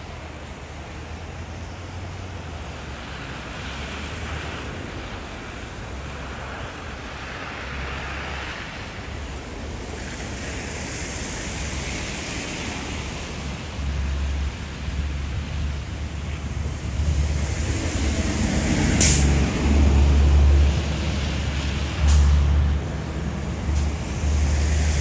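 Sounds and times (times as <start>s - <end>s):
rushing snowstorm hiss: 0.0s - 25.0s
wind gusting on microphone: 2.4s - 25.0s.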